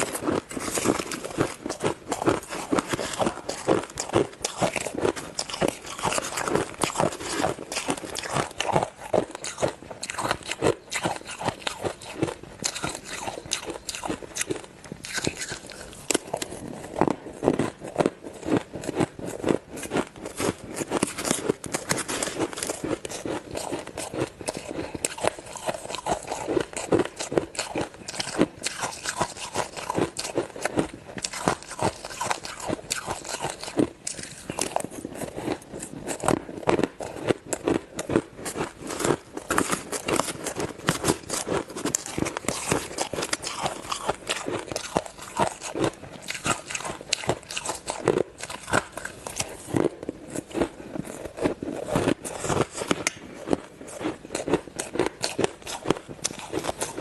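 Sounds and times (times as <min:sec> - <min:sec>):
ice crunching while chewed: 0:00.0 - 0:57.0.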